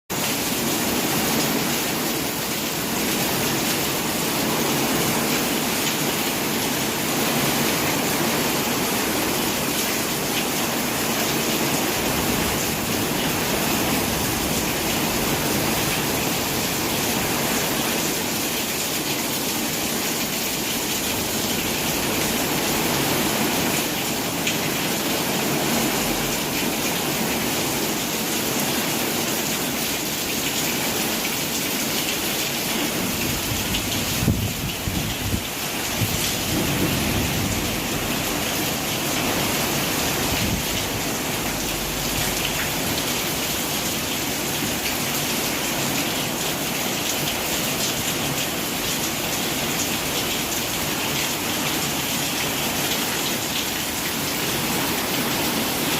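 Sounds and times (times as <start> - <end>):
steady rain falling: 0.1 - 55.9.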